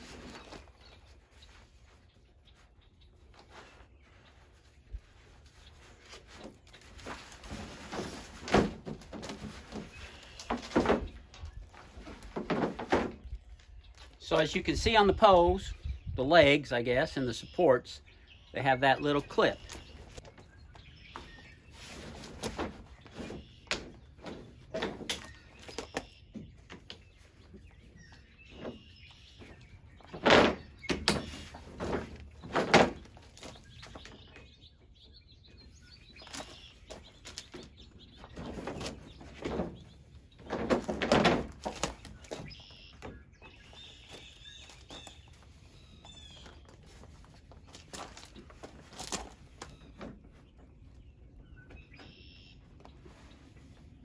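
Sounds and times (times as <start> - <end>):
birds chirping faintly: 0.0 - 54.0.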